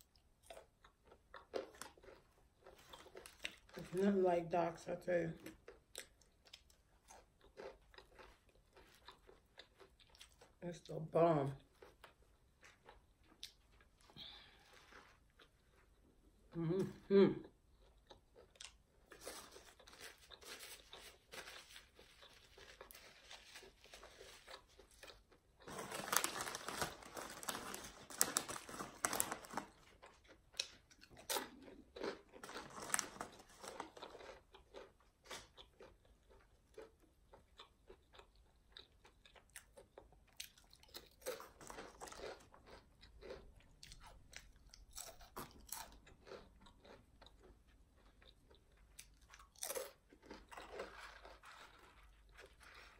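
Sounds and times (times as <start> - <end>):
person chewing crisp food: 0.0 - 3.8, 5.4 - 10.6, 11.6 - 16.7, 17.4 - 52.9.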